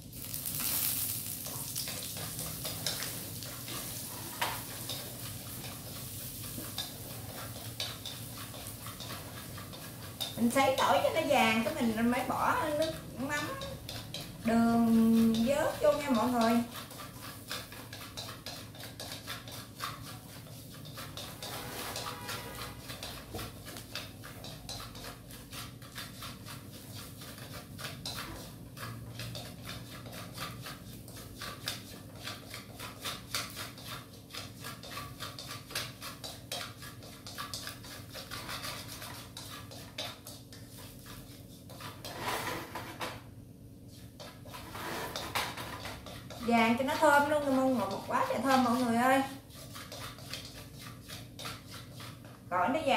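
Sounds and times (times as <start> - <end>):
garlic frying in oil: 0.0 - 52.9
utensil scraping a pan: 0.0 - 52.9.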